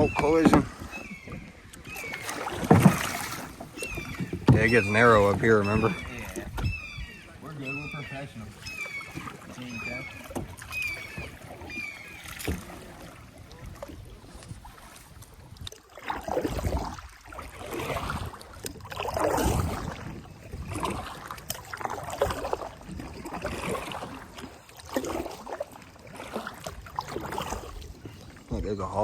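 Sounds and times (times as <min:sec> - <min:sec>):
kayak paddle swishing water: 0:00.0 - 0:29.0.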